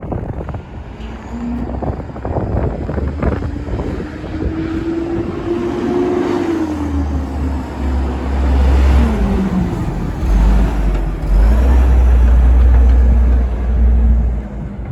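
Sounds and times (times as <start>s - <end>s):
garbage truck engine revving: 0.2s - 14.7s.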